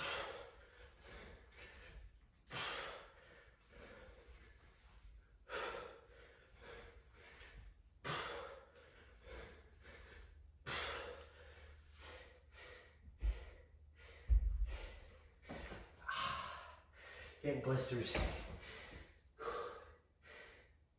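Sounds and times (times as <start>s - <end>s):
man panting: 0.0s - 17.4s, 18.2s - 20.9s.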